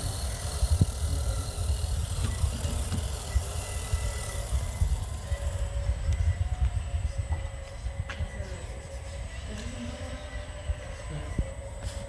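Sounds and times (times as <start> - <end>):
small electric motors whining: 0.0 - 12.0.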